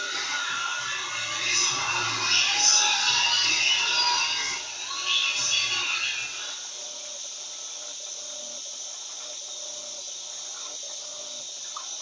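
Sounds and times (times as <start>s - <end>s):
faint washing machine motor hum: 0.0s - 12.0s.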